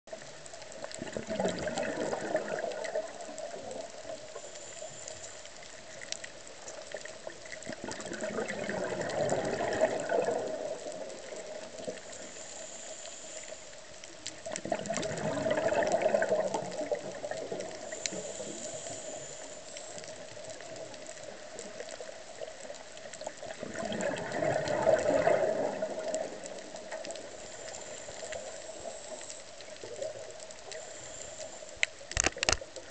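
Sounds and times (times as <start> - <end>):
faint clicking: 0.1 - 32.9
underwater bubbles gushing: 0.1 - 32.9.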